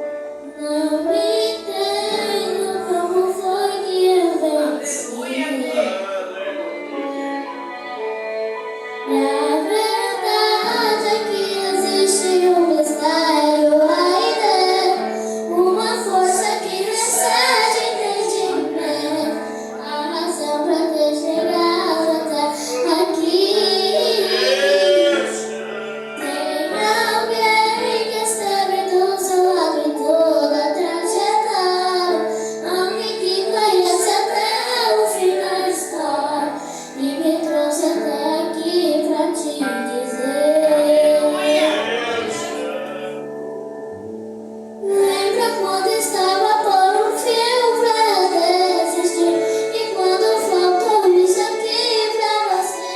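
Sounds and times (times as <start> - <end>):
instrumental accompaniment: 0.0 - 52.9
woman singing worship song: 0.4 - 6.0, 9.1 - 25.6, 26.2 - 43.3, 44.8 - 52.9.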